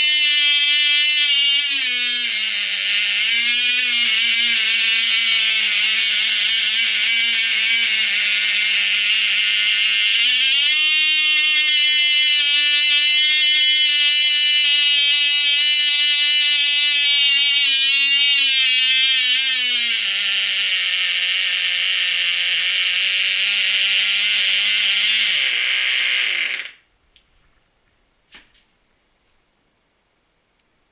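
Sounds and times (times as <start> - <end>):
model engine screaming: 0.0 - 26.8.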